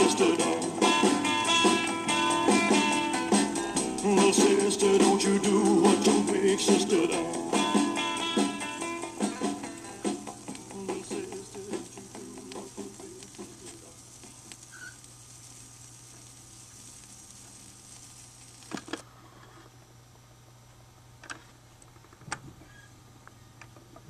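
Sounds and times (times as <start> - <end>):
vinyl crackles: 0.0 - 19.9
vinyl surface hiss: 0.0 - 24.0.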